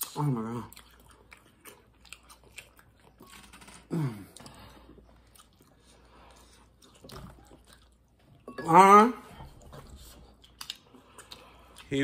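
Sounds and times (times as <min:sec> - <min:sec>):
chewing and crunching food: 0:00.0 - 0:08.5, 0:09.2 - 0:12.0.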